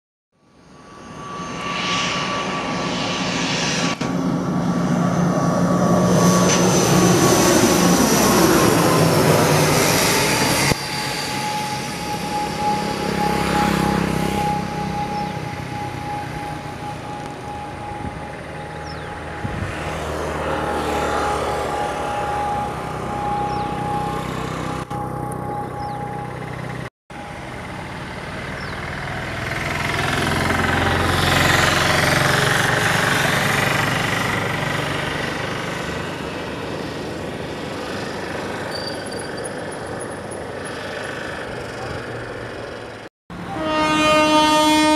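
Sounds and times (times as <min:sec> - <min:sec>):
turboprop engines droning: 0:00.4 - 0:44.9.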